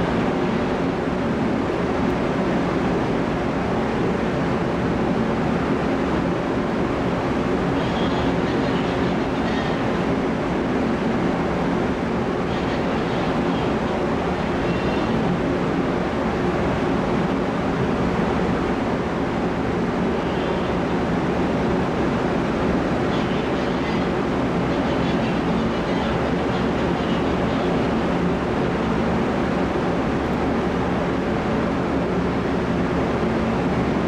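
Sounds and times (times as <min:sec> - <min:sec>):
ship engine rumble and hum: 0:00.0 - 0:34.0.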